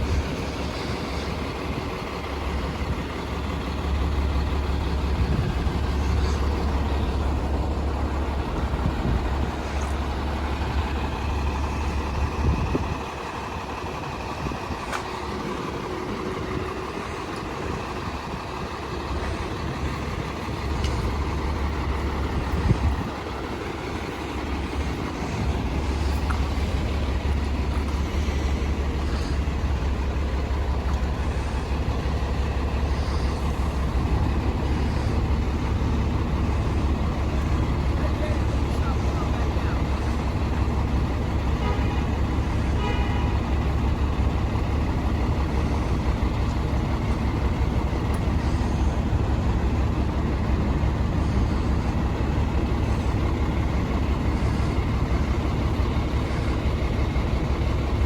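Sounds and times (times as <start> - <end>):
diesel engine low rumble: 0.0 - 58.0.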